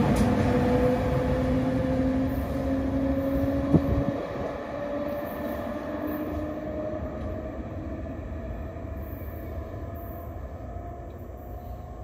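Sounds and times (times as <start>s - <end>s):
electric locomotive inverter whine: 0.0s - 12.0s
train rumble: 0.0s - 12.0s.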